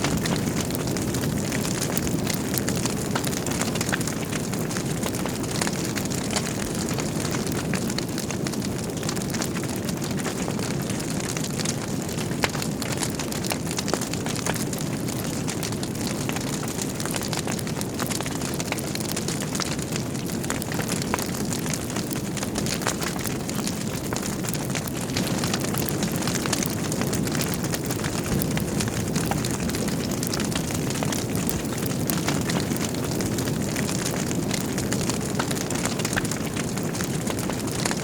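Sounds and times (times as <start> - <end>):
fire flames rumbling: 0.0 - 38.0
logs crackling and popping: 0.0 - 38.0.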